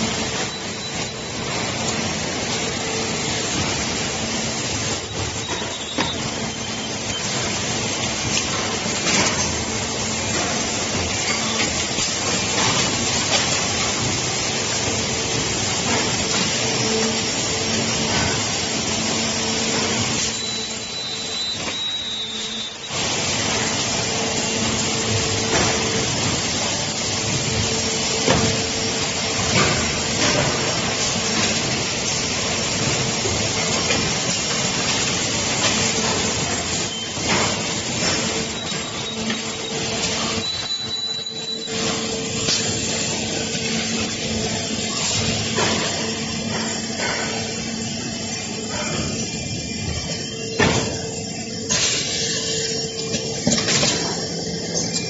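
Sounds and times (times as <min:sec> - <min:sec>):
machine drone: 0:00.0 - 0:55.0.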